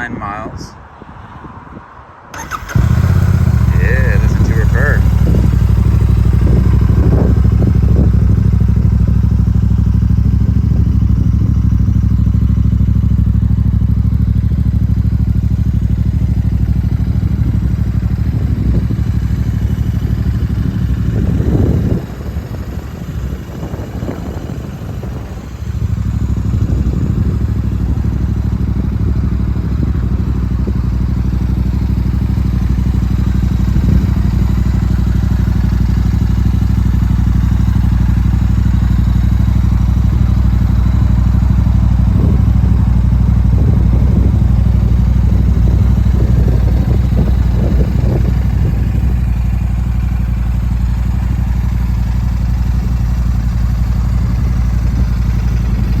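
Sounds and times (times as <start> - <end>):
motorcycle engine idling: 2.3 - 56.0.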